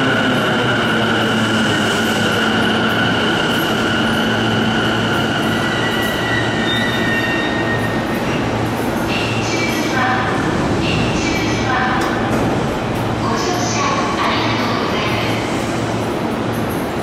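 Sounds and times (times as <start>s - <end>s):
electric train rolling rumble: 0.0s - 17.0s.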